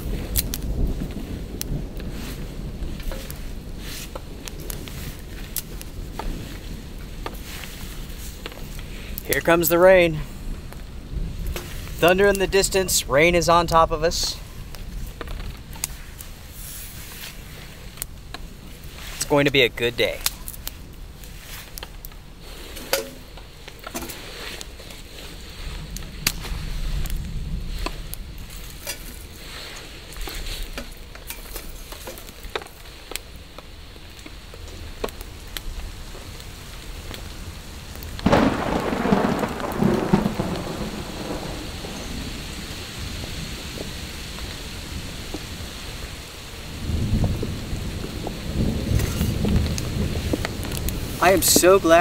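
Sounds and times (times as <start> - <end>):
thunder rumbling: 0.0 - 31.1, 33.8 - 52.0
raindrops striking close: 0.0 - 52.0
steady rain: 0.0 - 52.0.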